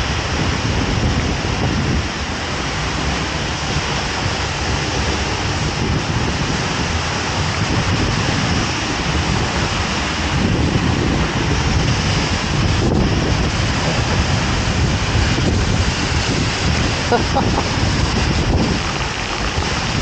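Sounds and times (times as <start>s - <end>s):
waterfall rushing: 0.0s - 20.0s
wind gusting on microphone: 0.0s - 20.0s.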